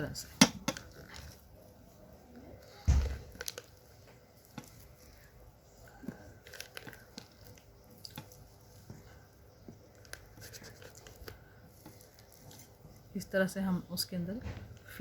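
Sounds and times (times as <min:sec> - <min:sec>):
plastic bag crinkling: 0:00.7 - 0:13.0.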